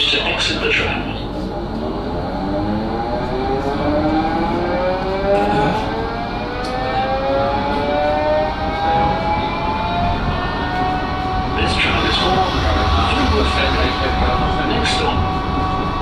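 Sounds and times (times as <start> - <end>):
tram electric motor whining: 1.3 - 16.0.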